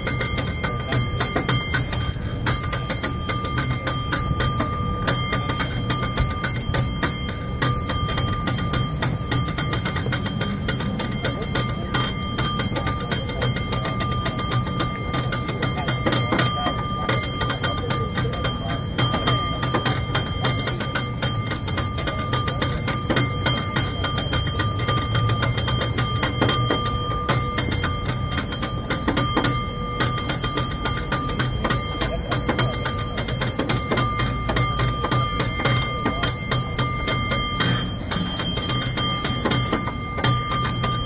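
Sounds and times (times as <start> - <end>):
cable car bell ringing rapidly: 0.0 - 41.0.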